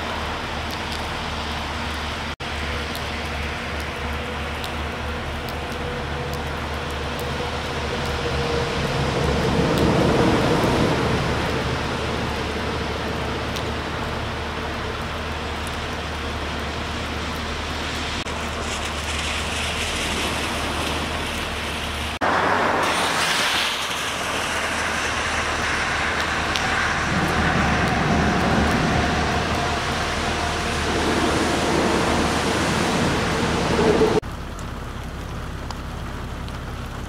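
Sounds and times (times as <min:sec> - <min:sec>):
rain falling on a wet street: 0:00.0 - 0:37.0.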